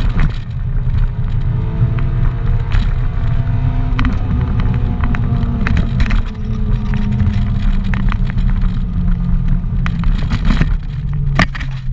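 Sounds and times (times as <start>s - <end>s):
car engine running in cabin: 0.0s - 11.9s.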